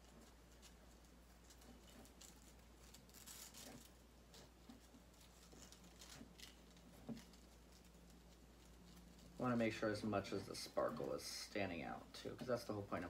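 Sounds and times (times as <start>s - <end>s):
ribbon rustling and tapping: 0.0s - 11.2s.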